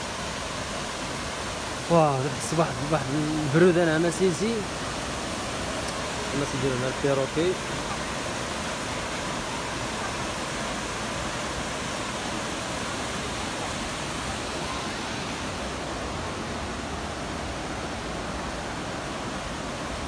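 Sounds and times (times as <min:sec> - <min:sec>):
waterfall rushing over rock: 0:00.0 - 0:20.0.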